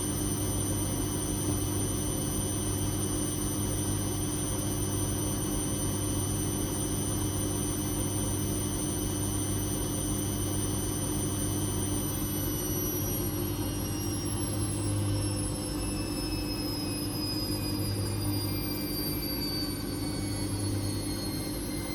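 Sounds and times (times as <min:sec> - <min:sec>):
washing machine spinning: 0:00.0 - 0:21.9.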